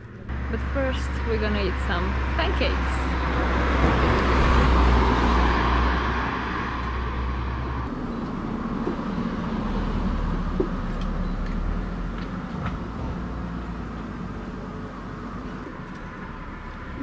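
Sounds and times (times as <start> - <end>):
low engine rumble: 0.0 - 17.0
vehicle passing: 0.0 - 17.0.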